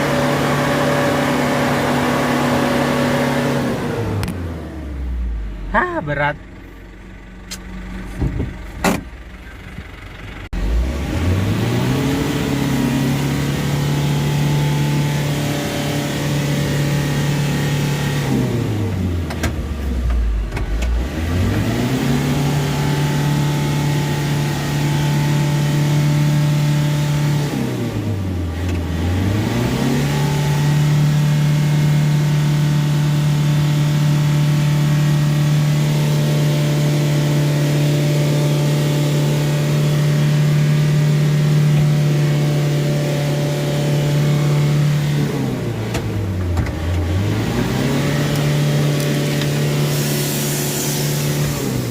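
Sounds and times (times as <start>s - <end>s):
diesel engine revving hard: 0.0s - 6.7s, 7.7s - 51.9s.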